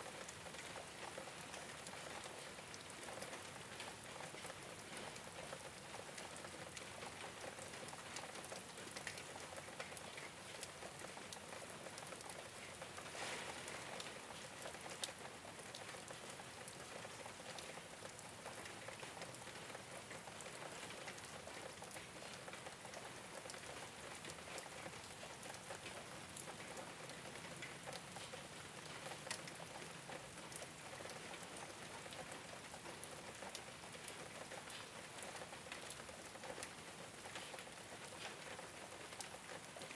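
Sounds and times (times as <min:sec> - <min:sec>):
rain on a rooftop: 0:00.0 - 0:39.9.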